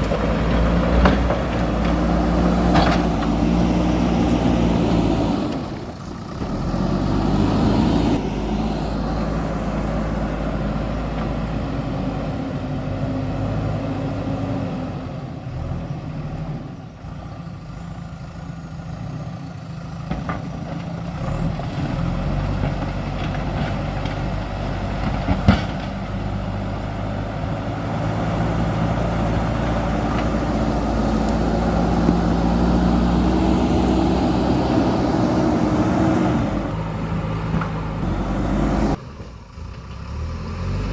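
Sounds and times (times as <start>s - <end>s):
diesel engine working: 0.0s - 40.9s.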